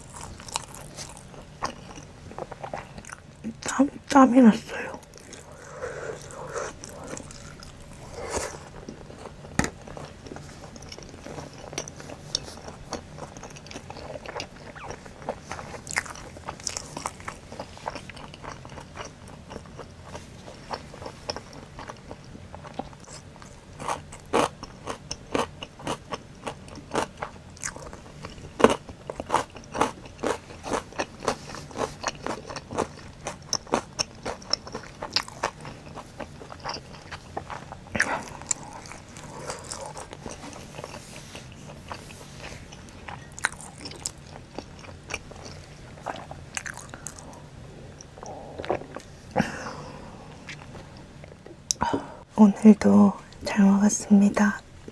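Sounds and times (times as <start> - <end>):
person chewing food: 0.0 - 3.6, 4.8 - 51.8.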